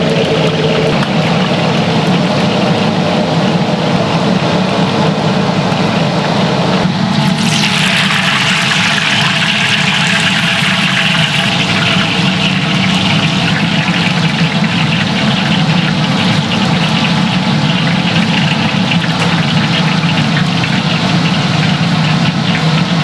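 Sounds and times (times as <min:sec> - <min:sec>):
mechanical hum with rushing: 0:00.0 - 0:23.0.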